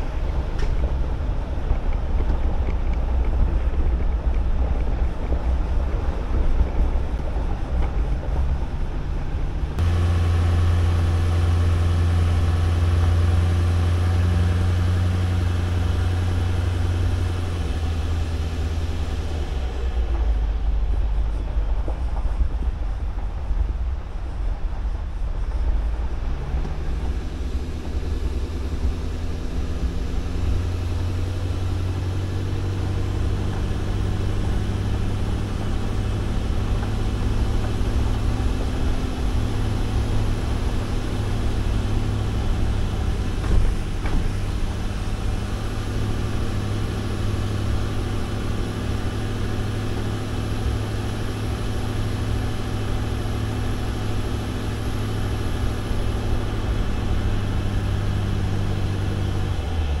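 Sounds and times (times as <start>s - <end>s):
truck engine hum: 0.0s - 60.0s.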